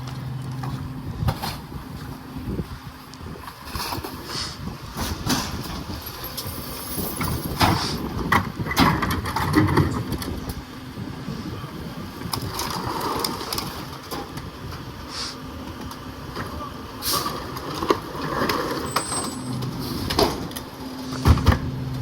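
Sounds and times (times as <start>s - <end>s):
garbage truck running: 0.0s - 22.0s.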